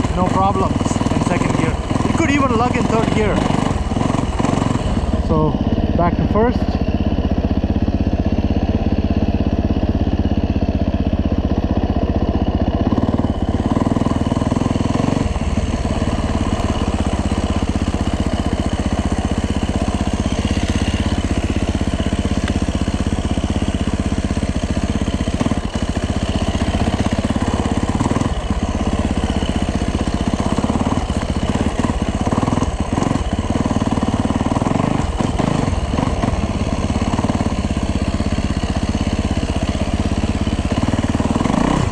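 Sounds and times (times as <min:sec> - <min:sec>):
dirt bike engine at low revs: 0:00.0 - 0:41.9.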